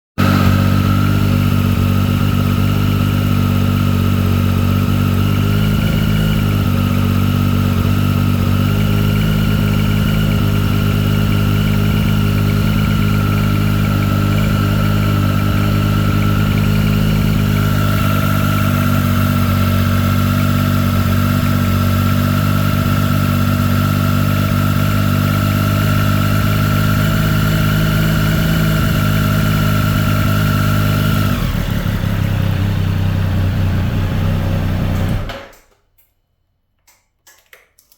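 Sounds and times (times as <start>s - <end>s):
motorcycle engine idling: 0.2s - 35.4s.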